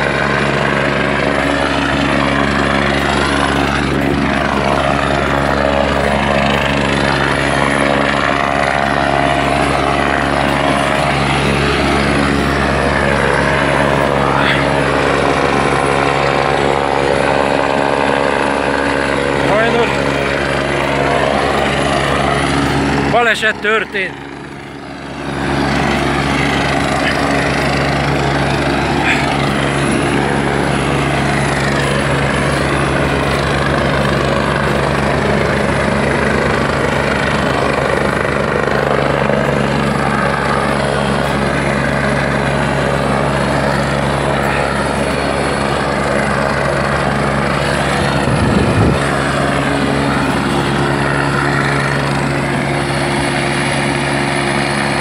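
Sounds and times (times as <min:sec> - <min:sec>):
helicopter rotor and turbine: 0:00.0 - 0:55.0.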